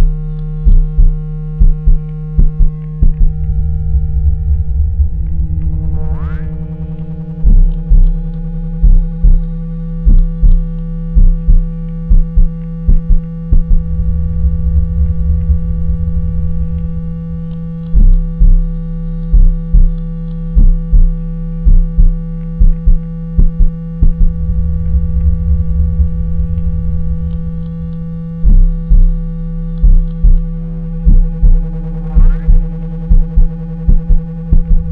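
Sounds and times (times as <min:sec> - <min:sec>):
low hum with overtones: 0:00.0 - 0:34.9
rapid low bass pulses: 0:00.0 - 0:34.9
steady low buzz: 0:00.0 - 0:34.9.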